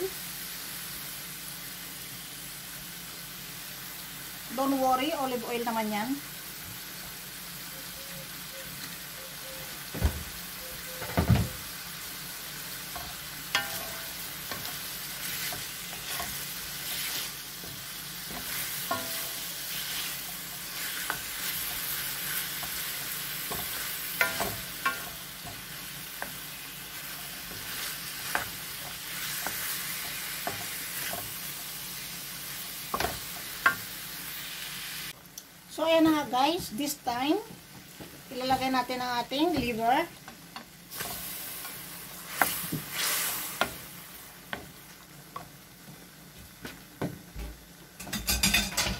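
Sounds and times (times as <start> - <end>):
chicken sizzling in oil: 0.0 - 48.9.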